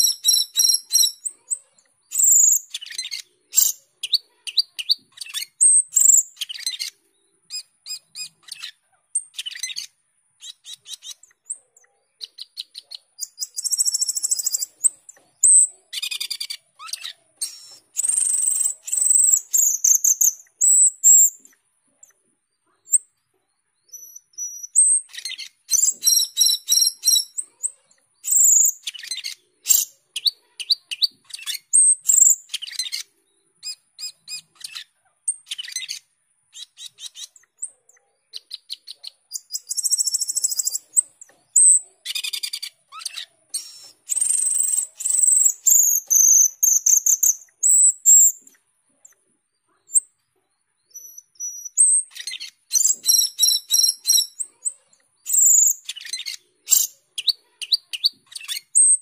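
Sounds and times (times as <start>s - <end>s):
starling singing: 0.0s - 21.6s, 23.9s - 48.6s, 50.9s - 59.0s.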